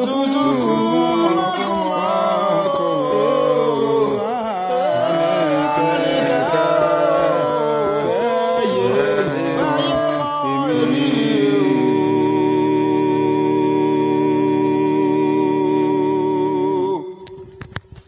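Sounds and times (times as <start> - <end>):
man singing a cappella harmony: 0.0 - 17.4.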